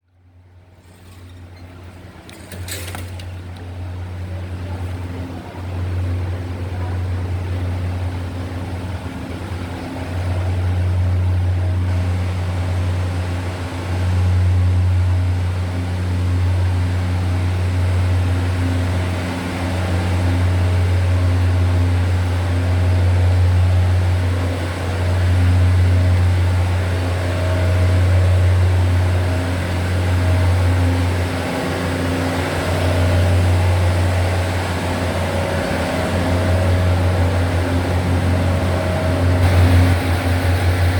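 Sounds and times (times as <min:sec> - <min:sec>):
train running: 0:00.3 - 0:40.9.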